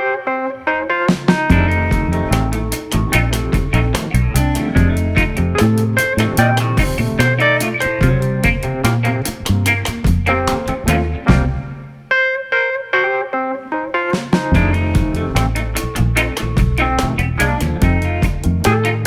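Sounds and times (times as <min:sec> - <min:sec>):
instrumental music with bass: 0:01.1 - 0:12.1, 0:14.2 - 0:19.0.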